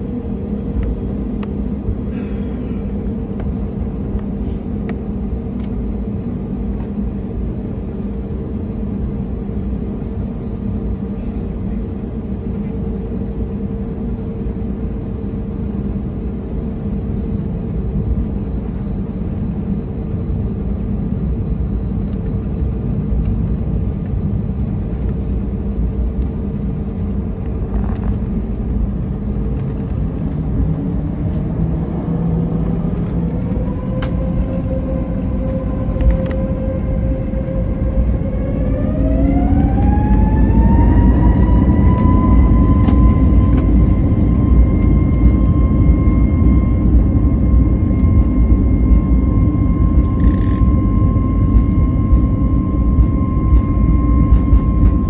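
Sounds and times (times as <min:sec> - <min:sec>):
jet engines humming from cabin: 0:00.0 - 0:55.0.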